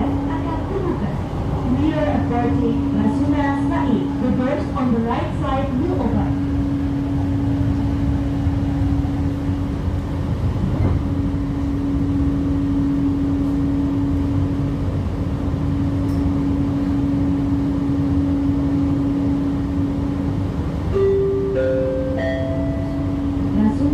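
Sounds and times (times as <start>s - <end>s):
constant low hum: 0.0s - 23.9s
train car rumbling: 0.0s - 23.9s.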